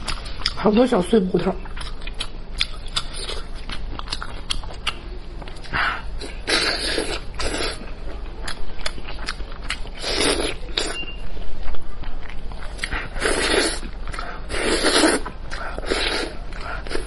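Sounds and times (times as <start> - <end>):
person chewing and sucking meat: 1.6 - 17.0.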